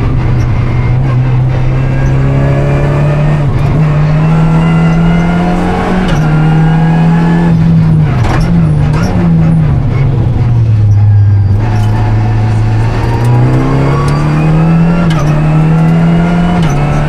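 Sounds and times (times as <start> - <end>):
car engine revving from inside: 0.5 - 9.5, 10.9 - 17.0.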